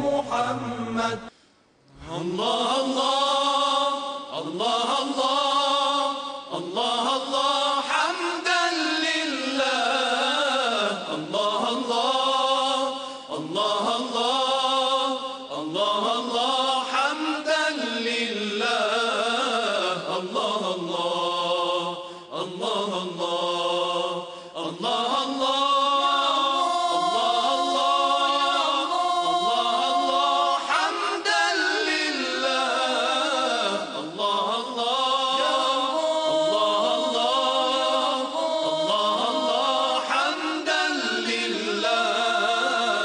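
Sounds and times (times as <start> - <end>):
male chorus singing in harmony: 0.0 - 1.3, 2.0 - 43.0.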